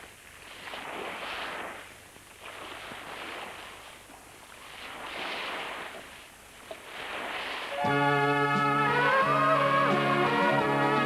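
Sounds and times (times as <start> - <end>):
sea waves washing: 0.0 - 11.0.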